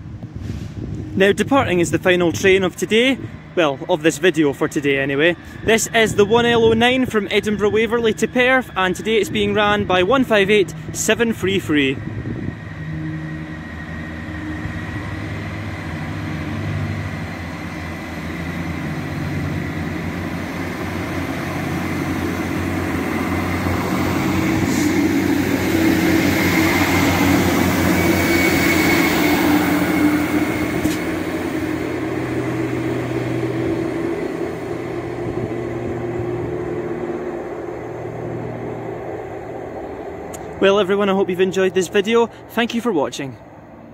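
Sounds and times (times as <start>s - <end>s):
diesel train engines running: 0.0s - 43.9s.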